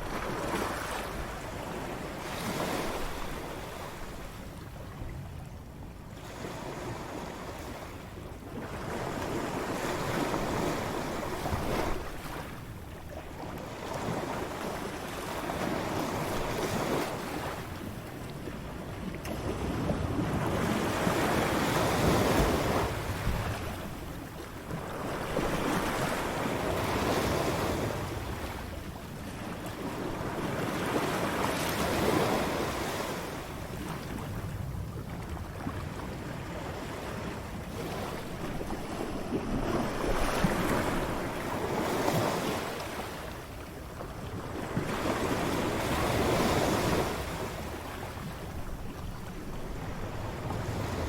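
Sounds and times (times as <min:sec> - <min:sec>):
ocean waves breaking: 0:00.0 - 0:05.5, 0:06.2 - 0:51.0.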